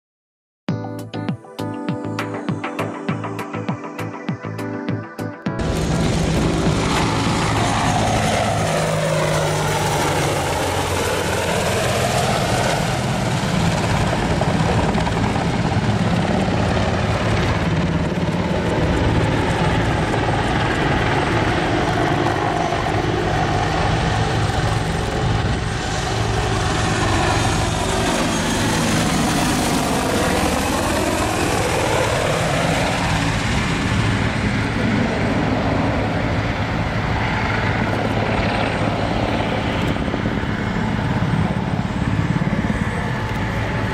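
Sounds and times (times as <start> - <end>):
helicopter flying overhead: 2.0 - 43.9.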